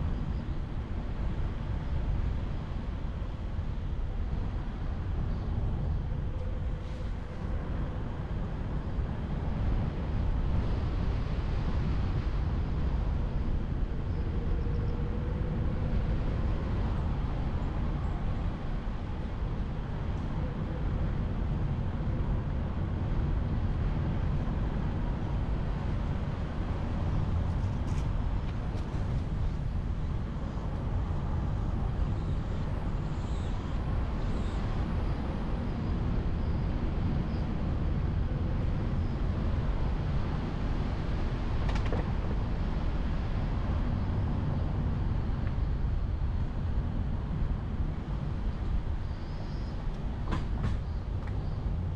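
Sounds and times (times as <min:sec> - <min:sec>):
car wind and road rumble: 0:00.0 - 0:51.9.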